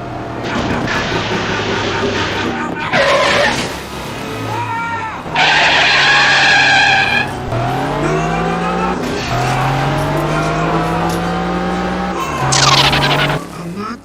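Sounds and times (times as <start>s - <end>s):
race car engine accelerating: 0.0s - 14.0s
tyres squealing: 0.0s - 14.0s.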